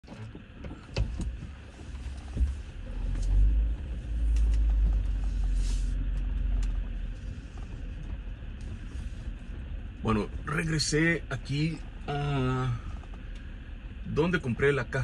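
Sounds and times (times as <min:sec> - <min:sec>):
road rumble inside vehicle: 0:00.0 - 0:15.0.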